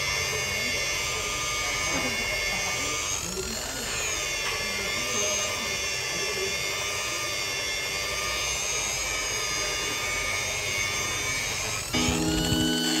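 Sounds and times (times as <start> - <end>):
rotary polisher whining: 0.0 - 13.0.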